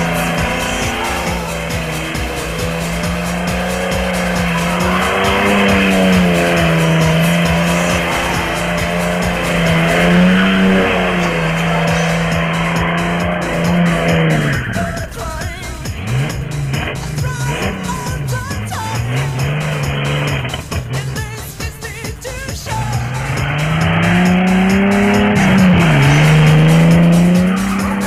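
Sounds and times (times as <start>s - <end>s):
car engine at high revs: 0.0s - 28.0s
tyres squealing on asphalt: 0.0s - 28.0s.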